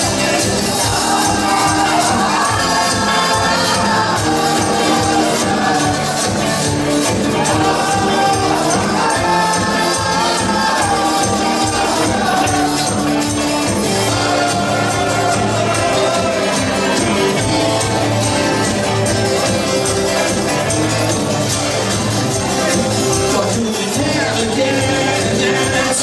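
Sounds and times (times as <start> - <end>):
live rock band playing: 0.0 - 26.0
voices singing together: 0.0 - 26.0.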